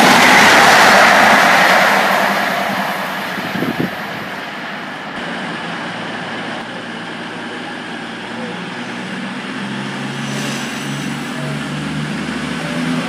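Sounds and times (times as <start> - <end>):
diesel engines humming: 0.0 - 13.0
train passing at speed: 0.0 - 13.0.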